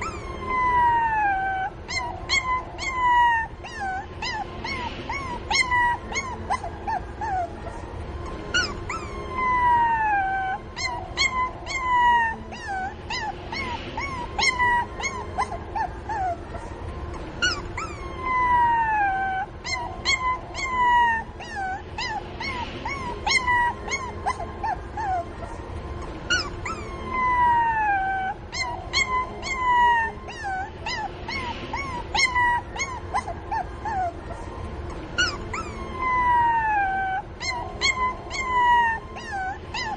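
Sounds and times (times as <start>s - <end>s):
puppy whining: 0.0s - 39.9s
puppy yelping and whimpering: 0.0s - 39.9s.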